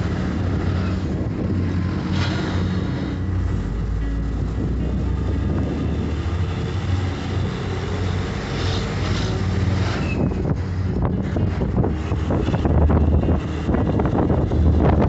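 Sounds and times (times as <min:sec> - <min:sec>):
bus engine running: 0:00.0 - 0:15.0
tyre and road noise: 0:00.0 - 0:15.0.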